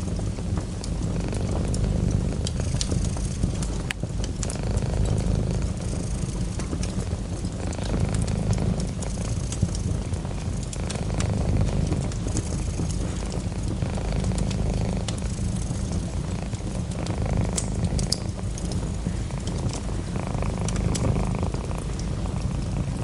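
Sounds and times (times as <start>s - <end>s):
cat purring: 0.0s - 23.0s
wood fire crackling: 0.0s - 23.0s.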